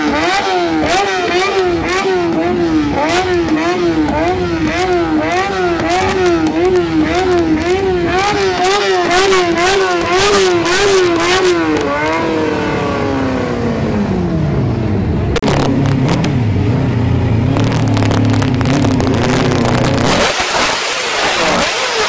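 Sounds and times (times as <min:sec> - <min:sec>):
deeper engine revving: 0:00.0 - 0:22.0
motorcycle engines revving: 0:00.0 - 0:22.0.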